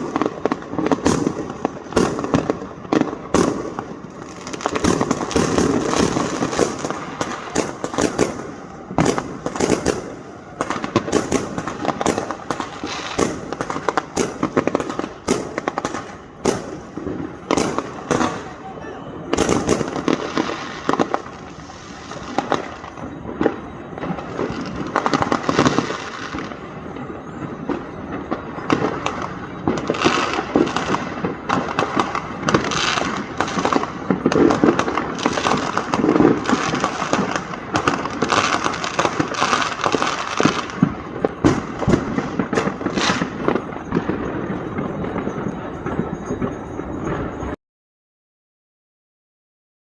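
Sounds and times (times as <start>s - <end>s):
fireworks bangs and crackle: 0.0s - 47.6s.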